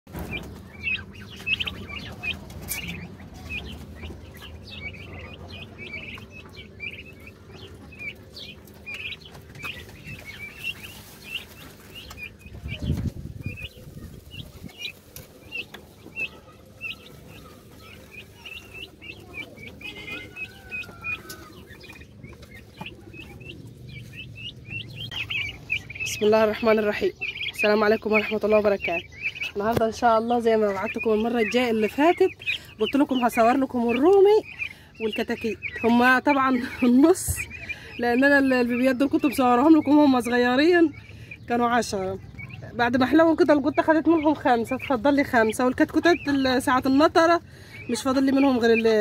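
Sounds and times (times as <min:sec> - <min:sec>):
turkey poults peeping: 0:00.1 - 0:49.0.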